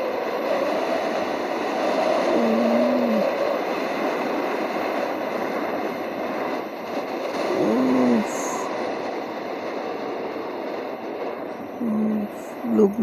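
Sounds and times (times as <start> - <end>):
tornado wind rushing: 0.0 - 13.0.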